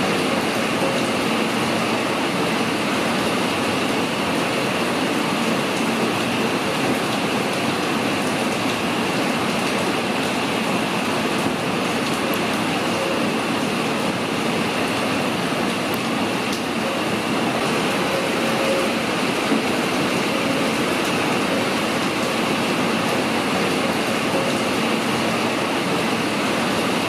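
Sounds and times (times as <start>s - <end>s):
heavy rain on paving: 0.0s - 27.0s.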